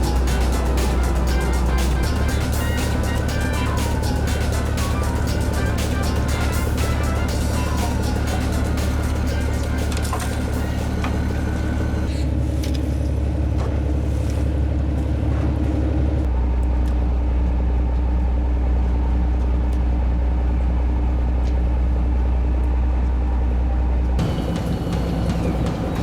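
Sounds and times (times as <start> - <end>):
boat engine droning: 0.0 - 21.3, 21.9 - 26.0.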